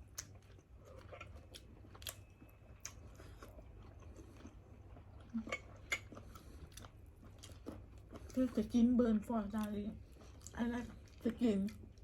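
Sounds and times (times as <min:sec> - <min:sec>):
person chewing food: 0:00.0 - 0:08.7, 0:09.4 - 0:12.0.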